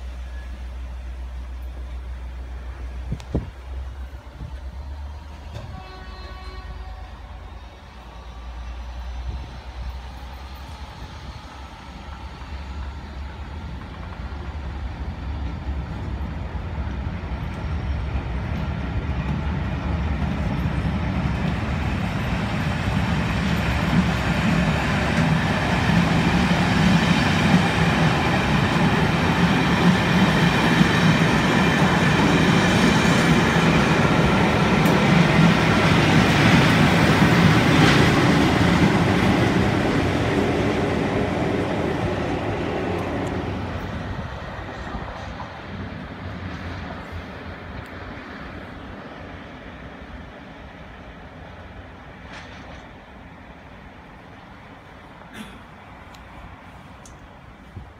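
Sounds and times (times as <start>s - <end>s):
diesel locomotive passing: 0.0s - 57.9s
train wheels rolling past: 0.0s - 57.9s.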